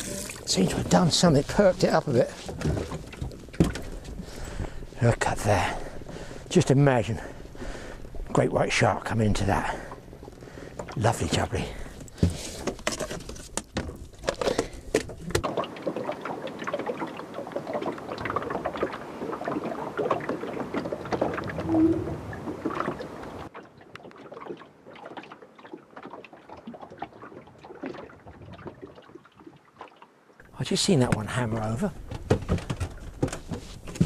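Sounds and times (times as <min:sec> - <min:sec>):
water lapping against boat hull: 0:00.0 - 0:34.0.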